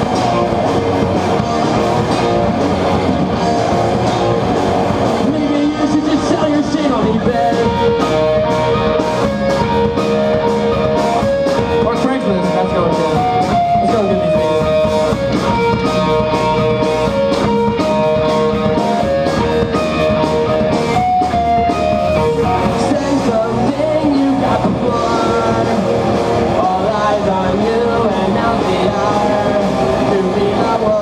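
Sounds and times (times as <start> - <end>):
electric guitars sustained melody: 0.0 - 31.0
steady drum beat: 0.0 - 31.0.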